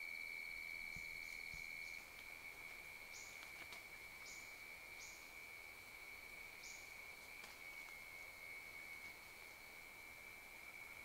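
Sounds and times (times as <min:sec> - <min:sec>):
high-pitched insect whine: 0:00.0 - 0:11.0.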